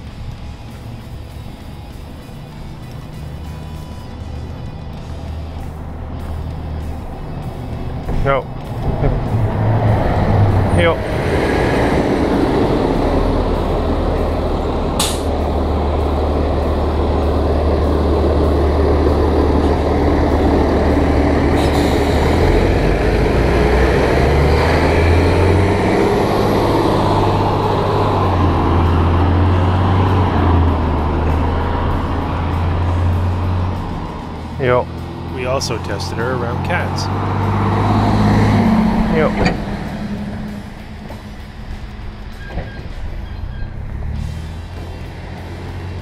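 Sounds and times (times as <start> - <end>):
diesel bus engine idling: 0.0 - 46.0.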